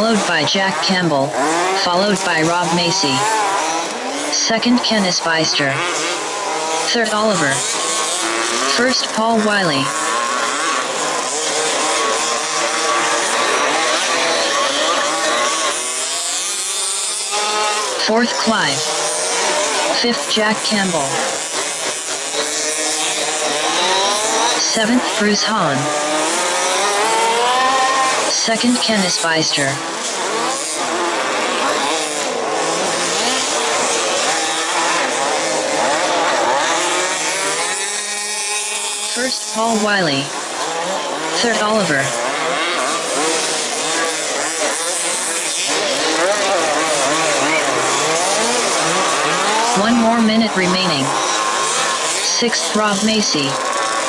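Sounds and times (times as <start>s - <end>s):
small two-stroke engines revving: 0.0s - 54.0s.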